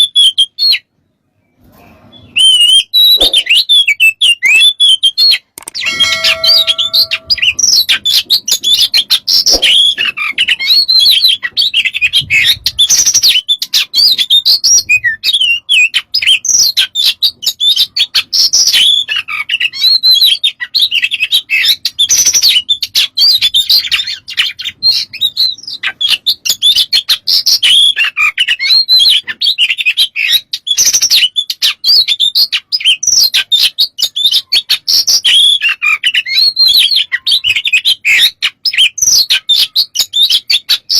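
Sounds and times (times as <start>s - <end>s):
bird singing chirps and whistles: 0.0s - 40.9s.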